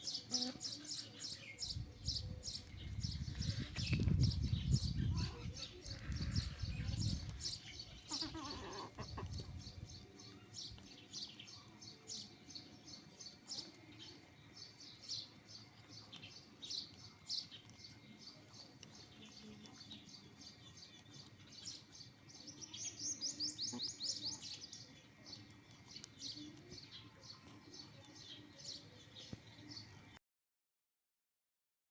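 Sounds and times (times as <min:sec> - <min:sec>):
birds chirping: 0:00.0 - 0:30.2.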